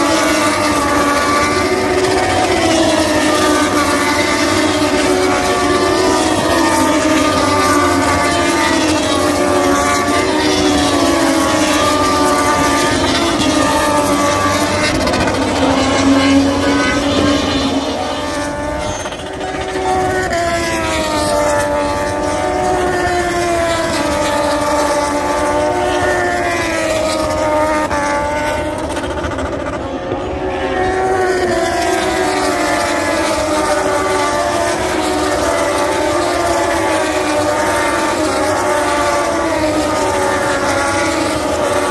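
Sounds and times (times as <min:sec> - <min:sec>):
racing motorcycles passing: 0:00.0 - 0:41.9.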